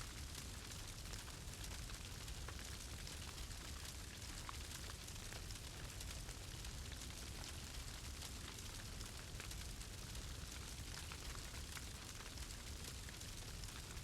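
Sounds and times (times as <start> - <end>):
fire crackling and popping: 0.1 - 14.0.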